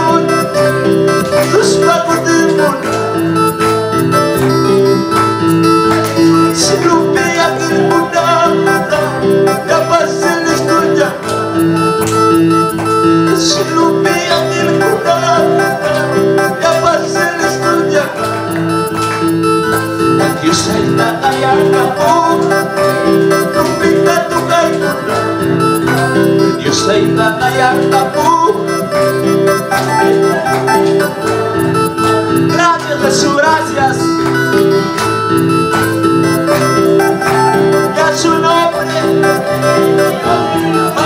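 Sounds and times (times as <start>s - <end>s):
electronic keyboard tune: 0.0s - 41.0s.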